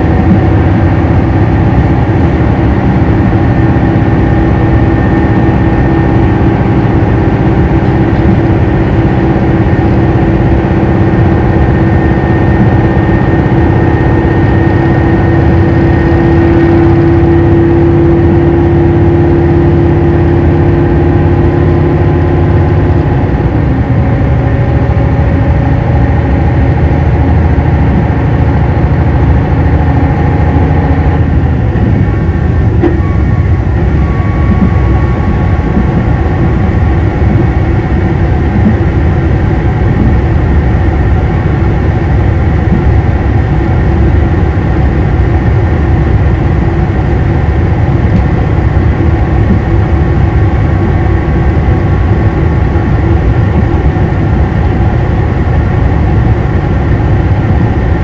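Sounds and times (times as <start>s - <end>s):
diesel engine droning: 0.0s - 58.0s
rail noise: 0.0s - 58.0s.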